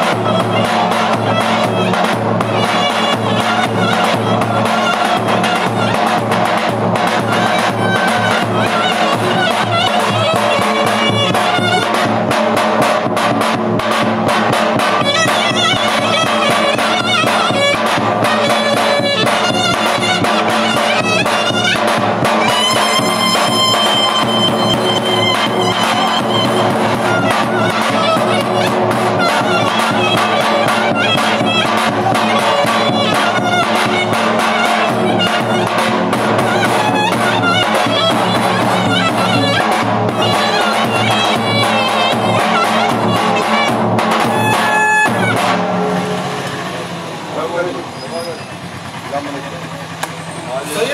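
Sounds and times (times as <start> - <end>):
live folk dance music: 0.0 - 47.5
wind instrument melody: 0.0 - 48.8.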